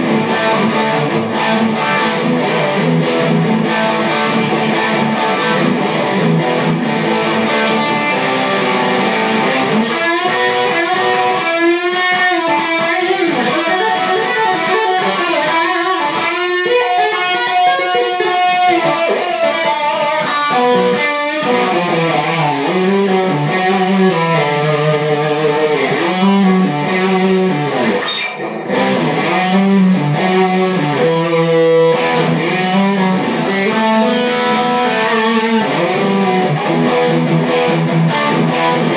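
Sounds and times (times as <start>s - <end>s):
loud electric guitar: 0.0s - 38.9s.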